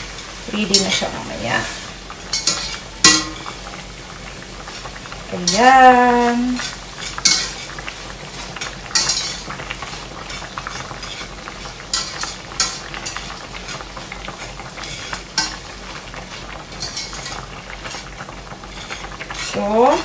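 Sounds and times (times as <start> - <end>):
bacon sizzling in a pan: 0.0 - 20.0
spatula scraping a pan: 0.7 - 3.7, 4.7 - 20.0.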